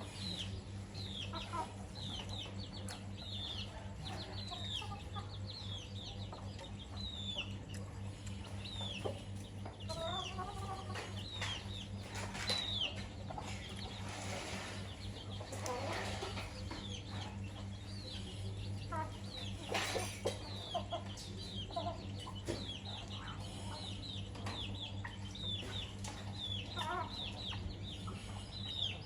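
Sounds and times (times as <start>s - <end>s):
chicks peeping: 0.0s - 29.0s
hen clucking: 0.0s - 29.0s.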